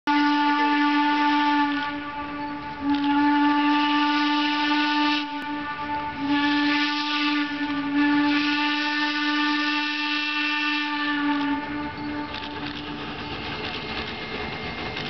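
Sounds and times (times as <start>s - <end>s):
steam whistle blasts: 0.1s - 13.2s
steam hissing: 0.4s - 15.0s.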